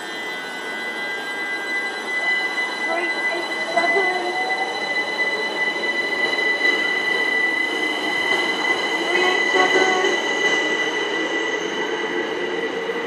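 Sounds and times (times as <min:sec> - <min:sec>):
high-pitched whining tones: 0:00.0 - 0:13.0
train wheels rumbling: 0:02.0 - 0:13.0.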